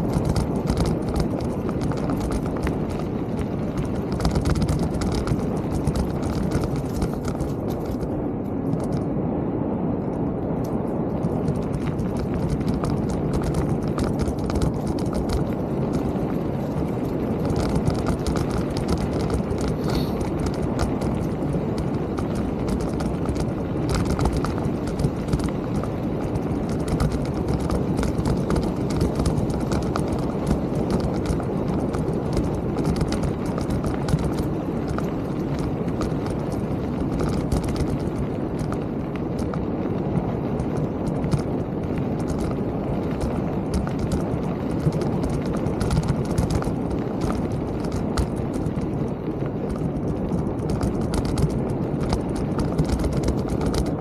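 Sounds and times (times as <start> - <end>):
bike rattling: 0.0 - 9.2, 10.0 - 54.0
bike tyres rumbling on trail: 0.0 - 54.0.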